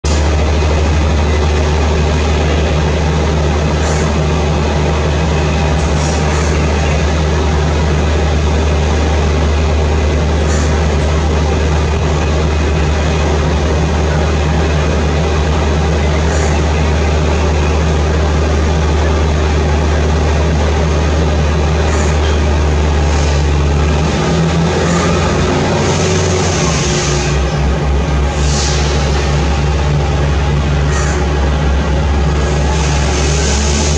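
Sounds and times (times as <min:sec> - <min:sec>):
deep steady hum: 0:00.0 - 0:33.9
jet engines rumbling: 0:00.0 - 0:33.9.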